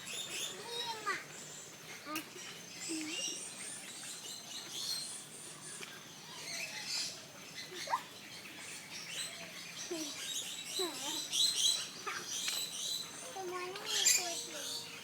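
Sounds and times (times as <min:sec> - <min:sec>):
many birds twittering: 0:00.0 - 0:15.0.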